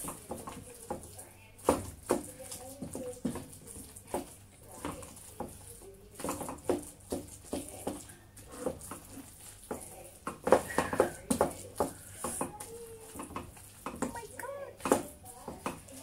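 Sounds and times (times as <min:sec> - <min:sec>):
spoon mashing potatoes: 0:00.0 - 0:16.0.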